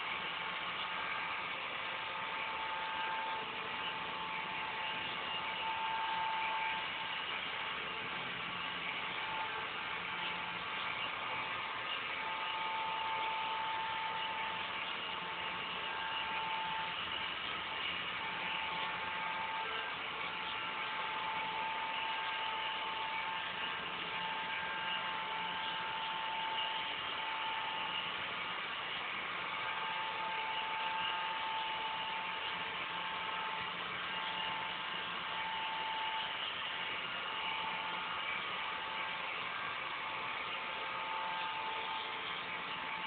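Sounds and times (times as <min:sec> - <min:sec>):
robot vacuum cleaner whirring: 0:00.0 - 0:43.0.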